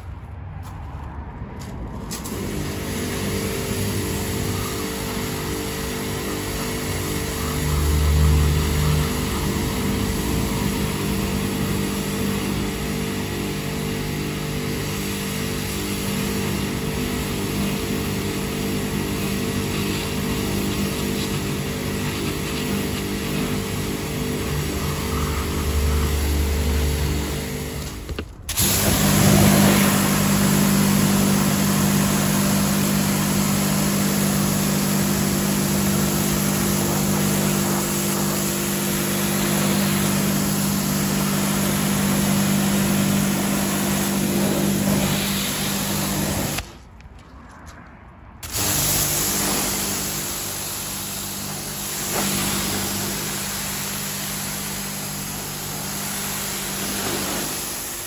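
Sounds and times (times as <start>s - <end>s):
pressure washer motor humming: 2.1s - 46.8s, 48.4s - 58.0s
water jet hissing on panels: 2.1s - 46.8s, 48.4s - 58.0s.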